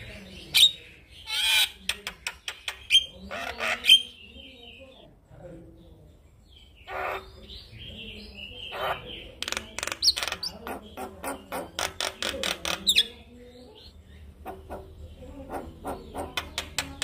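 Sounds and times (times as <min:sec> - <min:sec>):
myna bird singing: 0:00.0 - 0:17.0.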